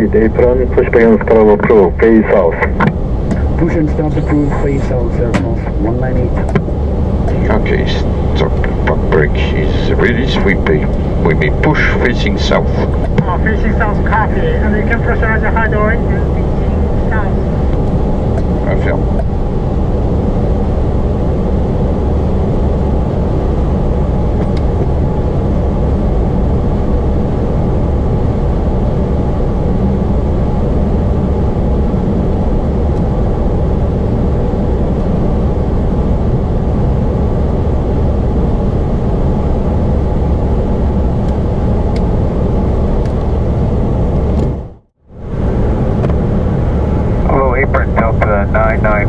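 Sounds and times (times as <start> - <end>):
aircraft cockpit rumble: 0.0 - 49.0.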